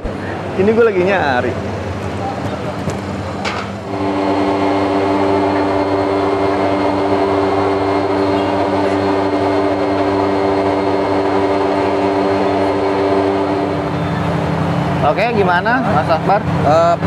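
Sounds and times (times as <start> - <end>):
machine drone with two-note hum: 0.0 - 17.0.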